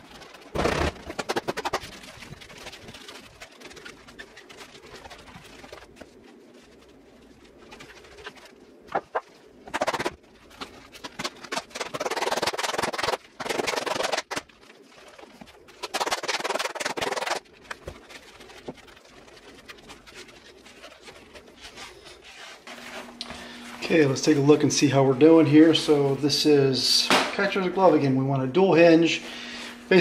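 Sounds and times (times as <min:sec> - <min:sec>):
leather mitt rubbing and handling: 0:00.0 - 0:26.5.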